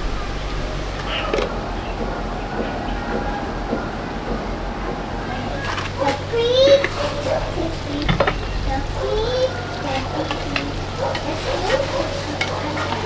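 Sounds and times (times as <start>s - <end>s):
stirring clicks: 0.0s - 13.0s.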